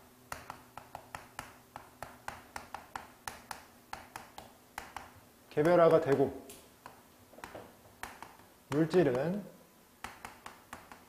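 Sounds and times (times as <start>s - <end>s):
chalk writing on blackboard: 0.3s - 9.3s, 10.0s - 11.0s.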